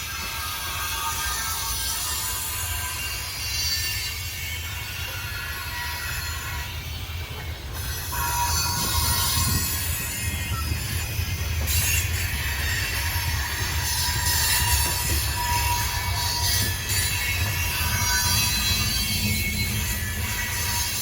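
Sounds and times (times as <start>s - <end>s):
train wheel squeal: 0.0s - 21.0s.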